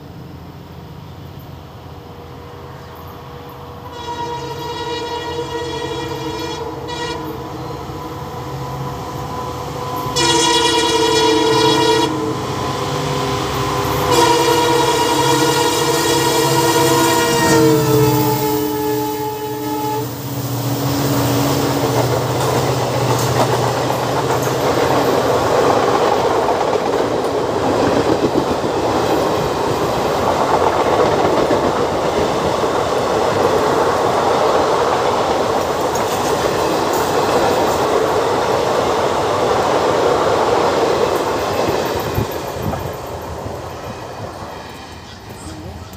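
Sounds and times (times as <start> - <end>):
diesel locomotive drone: 0.0 - 45.9
train wheels rushing over rails: 2.6 - 45.9.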